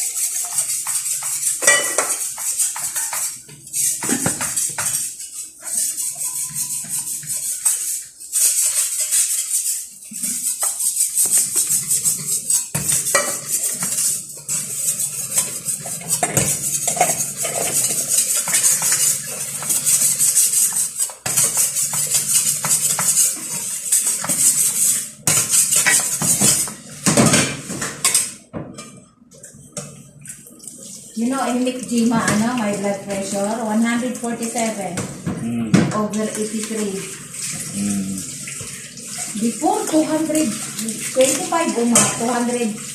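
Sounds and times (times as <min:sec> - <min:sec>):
metal utensils scraping a pot: 0:00.0 - 0:29.0, 0:30.8 - 0:35.0, 0:36.0 - 0:42.9.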